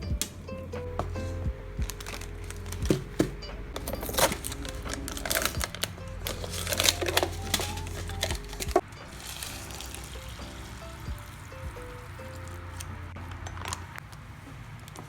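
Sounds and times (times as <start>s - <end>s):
background music with bass line: 0.0s - 14.0s
crinkling rustles: 1.0s - 15.0s.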